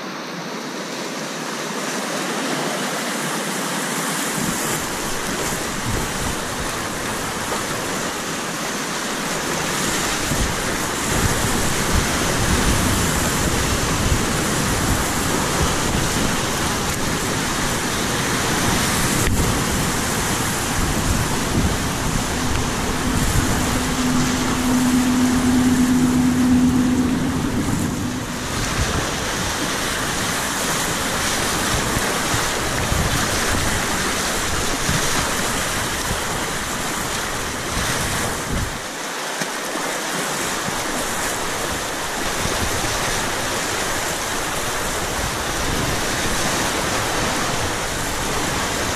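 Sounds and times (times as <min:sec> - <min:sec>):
whitewater rapids rushing: 0:00.0 - 0:48.9.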